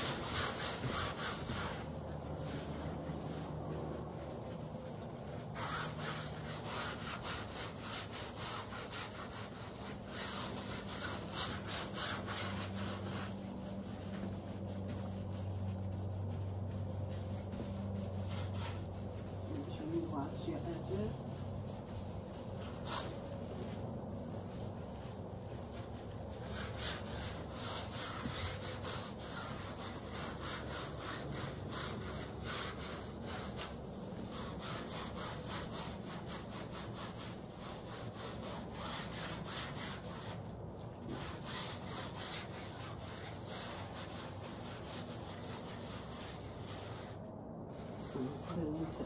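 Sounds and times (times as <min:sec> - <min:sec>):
fingers rubbing paint on canvas: 0:00.0 - 0:49.0.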